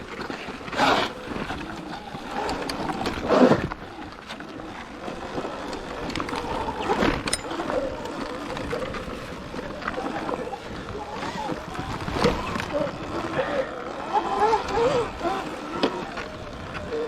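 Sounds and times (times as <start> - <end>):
wind and riding noise: 0.0 - 17.0.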